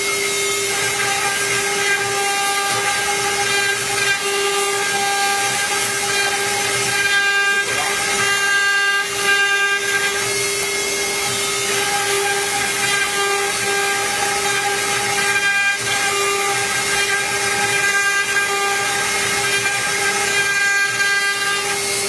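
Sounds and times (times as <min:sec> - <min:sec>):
router spindle high whine: 0:00.0 - 0:22.0
hiss of cutting plastic: 0:00.6 - 0:22.0.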